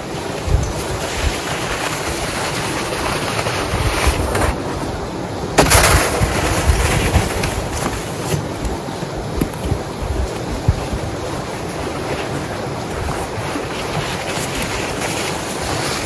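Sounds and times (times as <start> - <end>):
snow shovel pushed through snow: 0.0 - 5.0, 5.6 - 16.0
wind rumbling on microphone: 0.0 - 16.0.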